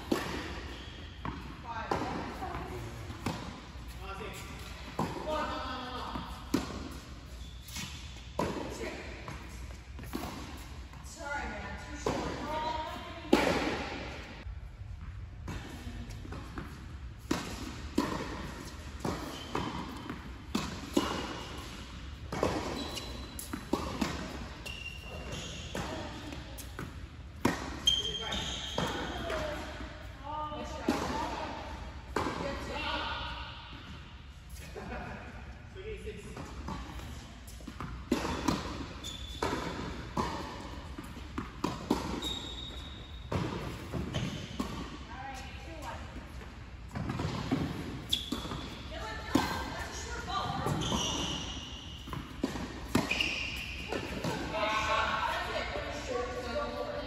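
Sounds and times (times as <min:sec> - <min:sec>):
ball bouncing on hard court: 0:00.0 - 0:14.2, 0:14.9 - 0:29.9, 0:30.6 - 0:34.0, 0:36.2 - 0:57.0.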